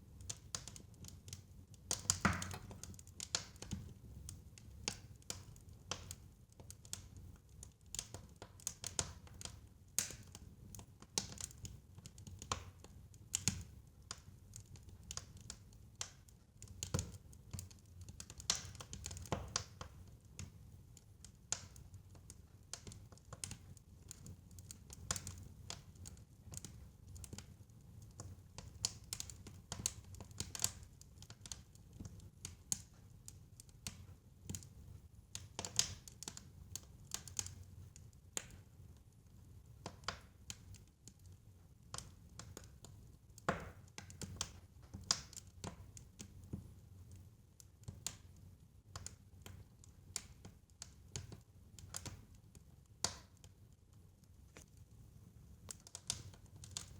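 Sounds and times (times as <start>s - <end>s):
fire crackling in a fireplace: 0.0s - 56.9s.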